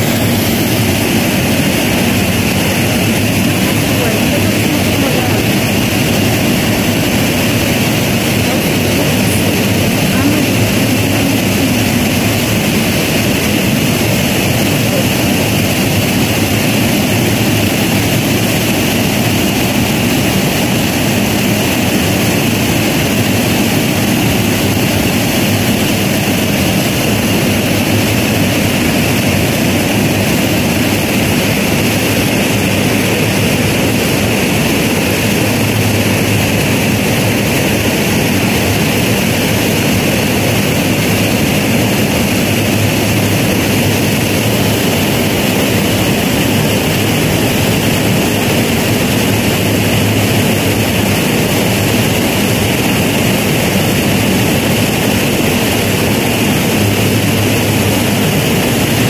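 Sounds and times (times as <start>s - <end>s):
rushing water of waterfall: 0.0s - 59.0s.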